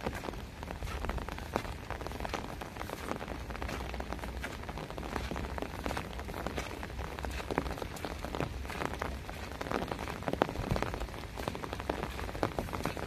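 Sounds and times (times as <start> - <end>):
rain drops tapping: 0.0 - 13.0.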